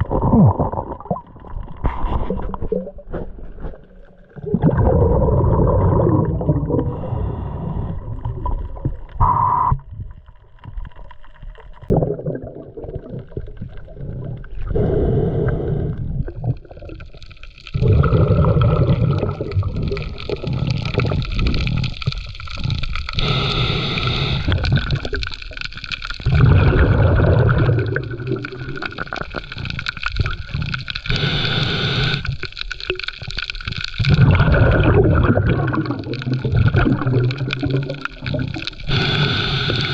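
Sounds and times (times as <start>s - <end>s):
underwater gurgling water: 0.0s - 39.9s.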